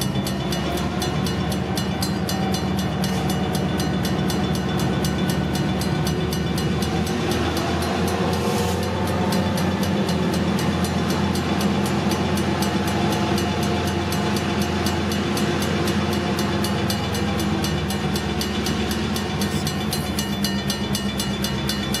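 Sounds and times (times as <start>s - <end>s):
crossing signal bell ringing: 0.0s - 22.0s
diesel locomotives droning: 0.0s - 22.0s.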